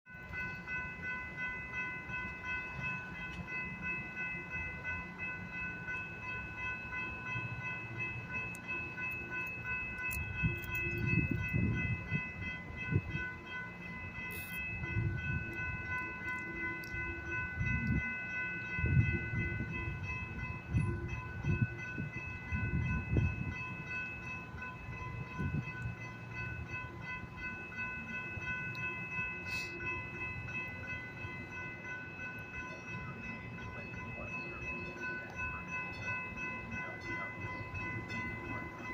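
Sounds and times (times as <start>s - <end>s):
crossing warning bell ringing: 0.1s - 38.9s
train rumble: 0.1s - 38.9s.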